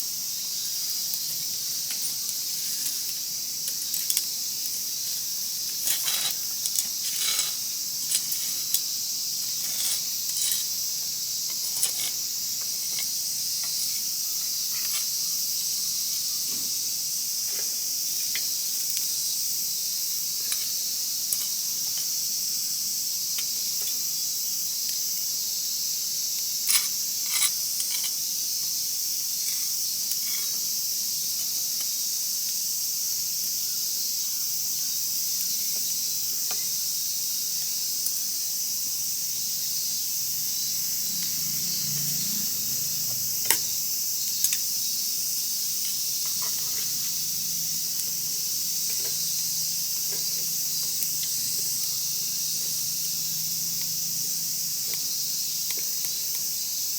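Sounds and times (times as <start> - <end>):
steady high-pitched hiss: 0.0 - 56.9.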